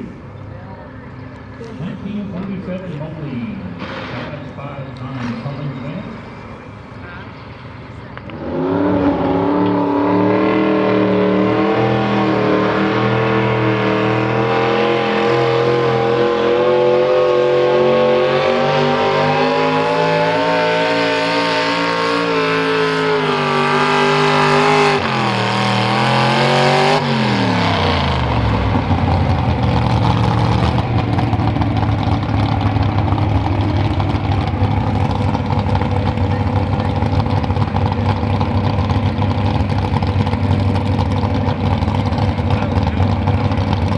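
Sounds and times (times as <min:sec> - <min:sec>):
tractor engine revving under load: 0:08.3 - 0:43.9.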